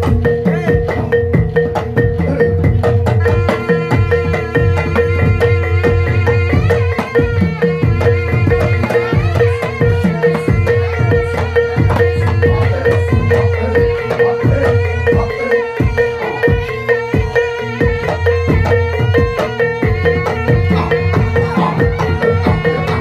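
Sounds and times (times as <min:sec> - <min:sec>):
hand drums fast rhythm: 0:00.0 - 0:23.0
struck metal percussion: 0:00.0 - 0:23.0.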